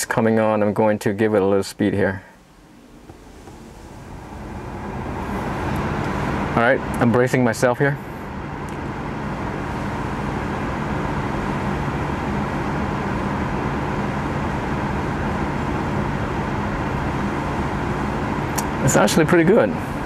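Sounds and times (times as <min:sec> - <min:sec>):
blower fan rushing air: 0:00.0 - 0:20.0.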